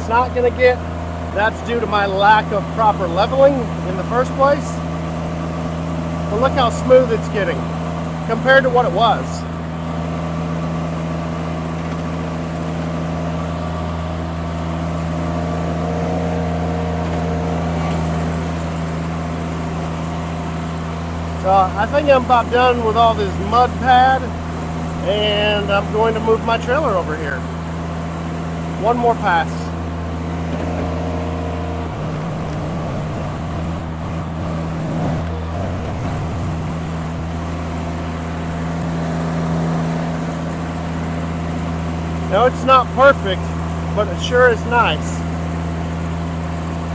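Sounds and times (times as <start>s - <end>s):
skid steer engine running: 0.0s - 46.9s.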